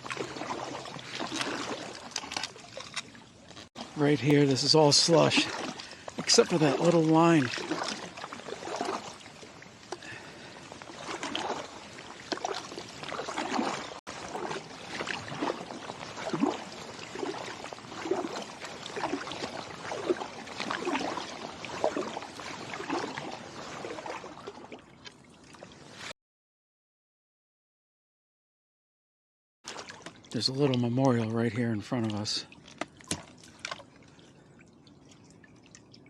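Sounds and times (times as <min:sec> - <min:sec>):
water trickling: 0:00.0 - 0:25.9, 0:29.7 - 0:36.0
kayak paddle splashing: 0:00.0 - 0:26.1, 0:29.6 - 0:36.0.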